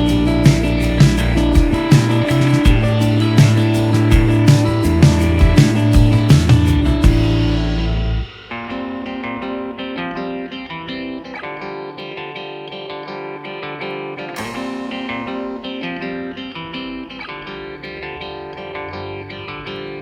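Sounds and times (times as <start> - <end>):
light guitar instrumental: 0.0 - 20.0.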